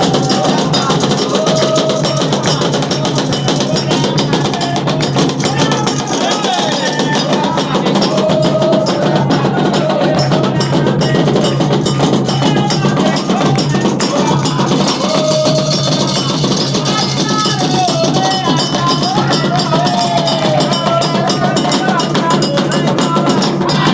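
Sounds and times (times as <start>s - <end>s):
hand drums: 0.0s - 23.9s
metal bell rhythm: 0.0s - 23.9s
voices singing: 0.0s - 23.9s.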